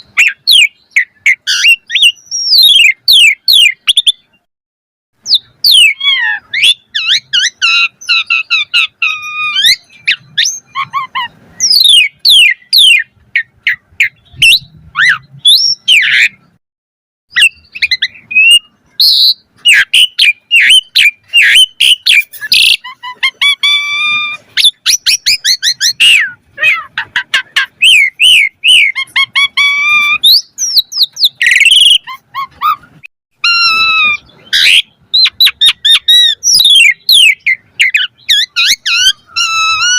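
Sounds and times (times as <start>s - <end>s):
starling singing whistles and squawks: 0.0s - 4.5s, 5.2s - 16.6s, 17.3s - 39.9s.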